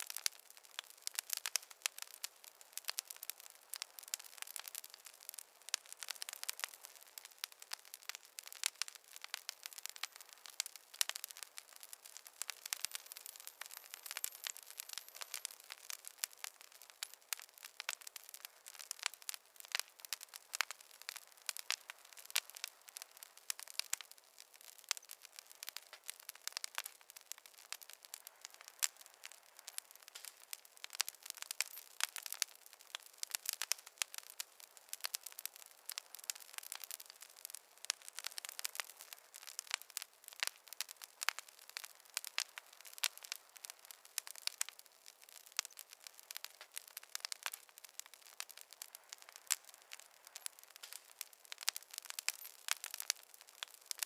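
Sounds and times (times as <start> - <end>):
faint hiss: 0.0 - 54.0
wood fire crackling: 0.0 - 54.0.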